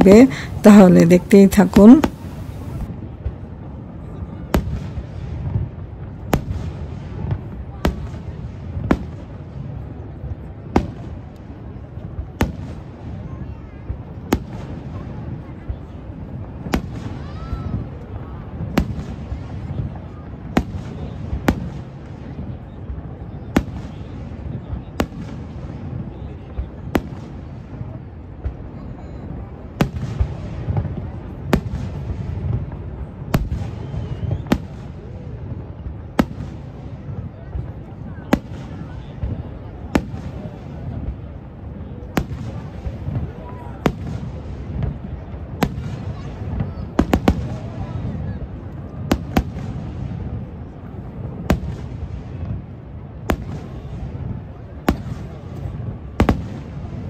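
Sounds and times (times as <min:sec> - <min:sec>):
fireworks bursting: 0:00.0 - 0:03.8, 0:04.4 - 0:13.3, 0:13.9 - 0:57.0.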